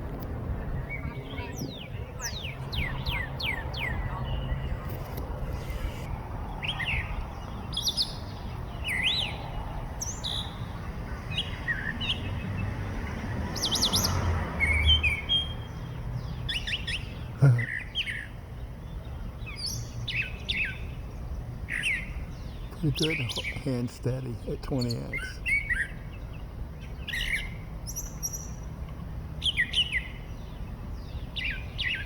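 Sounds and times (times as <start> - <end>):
songbirds chirping and singing: 0.7 - 32.0.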